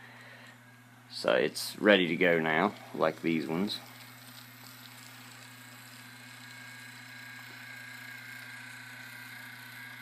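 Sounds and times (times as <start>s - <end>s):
constant low hum: 0.0s - 10.0s
model train motors whining: 1.9s - 10.0s.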